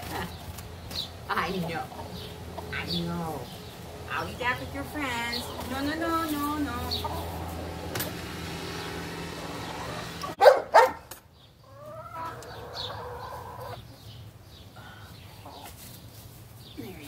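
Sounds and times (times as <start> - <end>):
chickens calling: 0.0 - 16.7.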